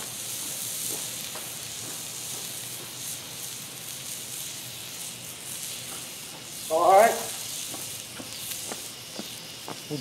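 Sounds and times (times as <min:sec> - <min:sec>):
steak sizzling: 0:00.0 - 0:10.0.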